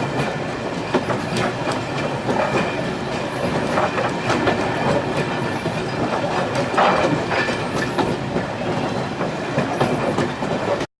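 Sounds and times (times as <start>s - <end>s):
train wheels clattering on rails: 0.0s - 10.9s.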